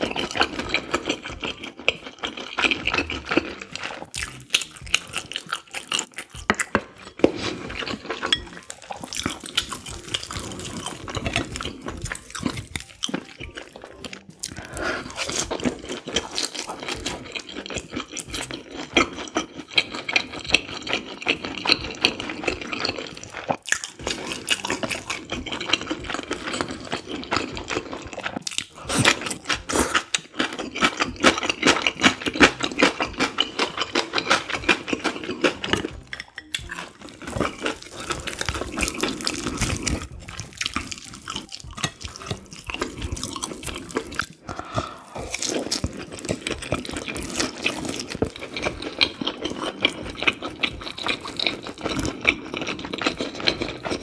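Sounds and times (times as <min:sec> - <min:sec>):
wet chewing and slurping: 0:00.0 - 0:54.0.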